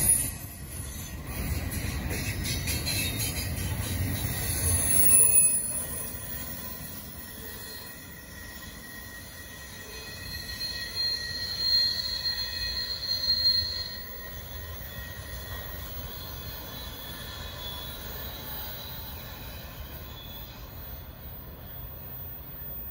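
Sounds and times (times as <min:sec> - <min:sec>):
train cars rumbling: 0:00.0 - 0:22.9
train wheels squealing: 0:00.0 - 0:22.9.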